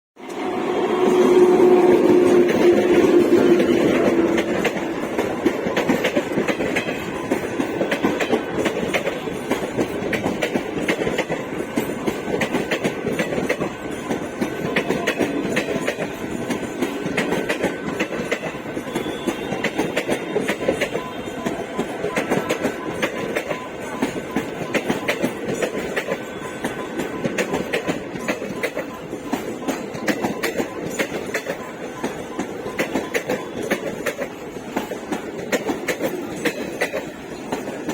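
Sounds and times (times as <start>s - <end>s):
train wheels clattering over rail joints: 1.0s - 37.9s.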